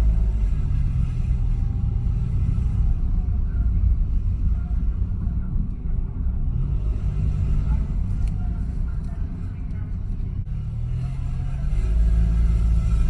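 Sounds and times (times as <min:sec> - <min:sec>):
car low rumbling drone: 0:00.0 - 0:13.0.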